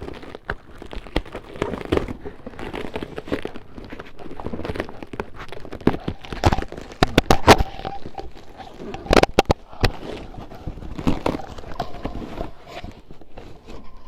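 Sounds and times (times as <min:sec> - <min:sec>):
packing material rustling: 0:00.0 - 0:14.0.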